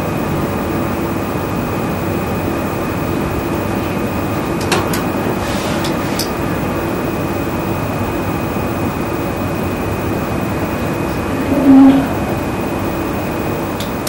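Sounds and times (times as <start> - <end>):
room noise hiss and hum: 0.0 - 14.0
thin high whine: 0.0 - 14.0.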